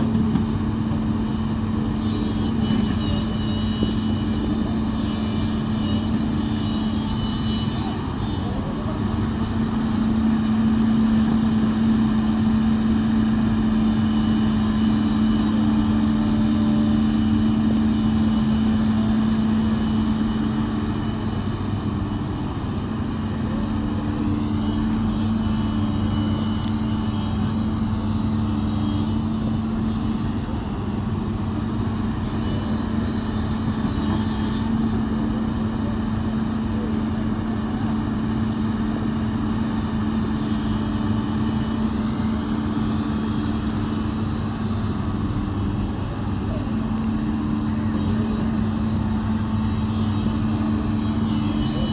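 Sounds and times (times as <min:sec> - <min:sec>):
backhoe diesel engine running: 0:00.0 - 0:51.9.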